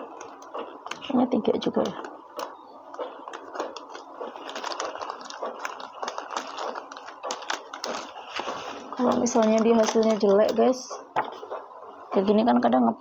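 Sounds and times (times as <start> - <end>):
paper rustling: 0.0 - 11.5.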